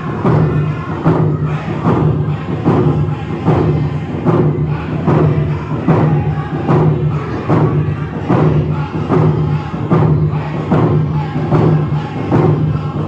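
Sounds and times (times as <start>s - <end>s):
group chanting: 0.0s - 13.0s
hand drums beating: 0.0s - 13.0s.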